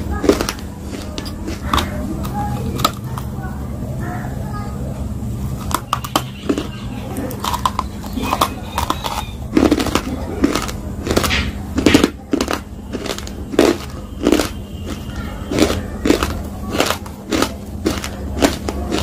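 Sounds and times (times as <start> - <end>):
crunchy food being chewed: 0.0 - 3.6, 5.6 - 19.0.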